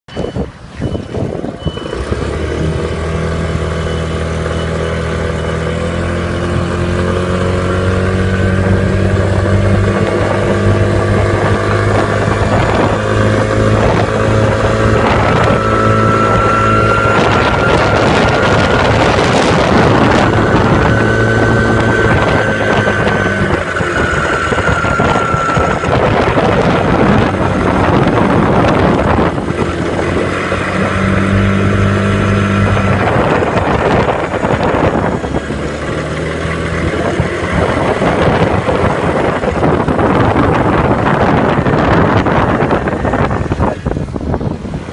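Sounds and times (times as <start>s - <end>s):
high whine: 0.1s - 44.9s
scooter engine running: 0.8s - 44.9s.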